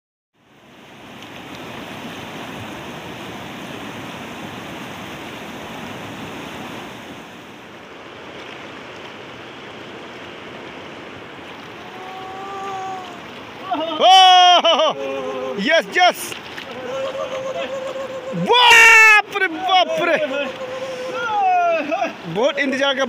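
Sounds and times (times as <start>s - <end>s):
river rushing through rapids: 0.4s - 23.0s.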